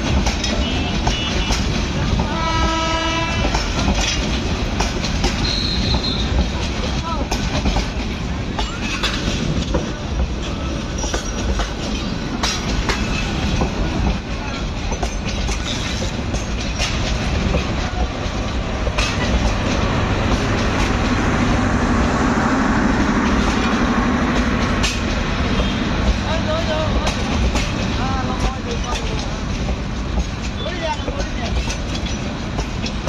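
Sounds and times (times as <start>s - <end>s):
wheels clicking over rail joints: 0.0s - 21.7s, 23.1s - 33.0s
train rumbling on rails: 0.0s - 33.0s.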